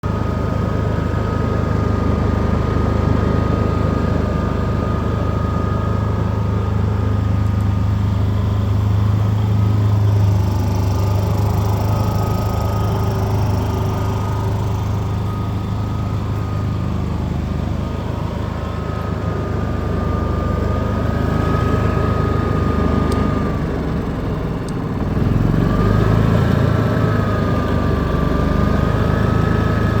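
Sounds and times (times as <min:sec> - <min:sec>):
generator running with whine: 0:00.0 - 0:30.0.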